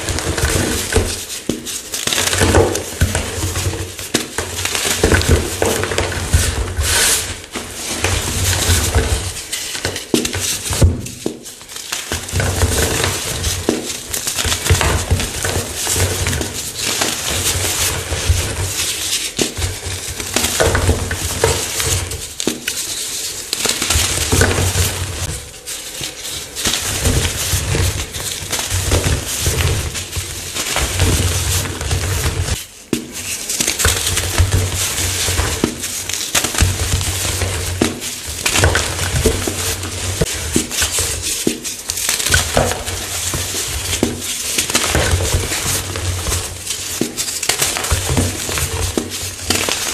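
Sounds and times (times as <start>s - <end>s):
chalk blocks being crushed: 0.0s - 49.9s.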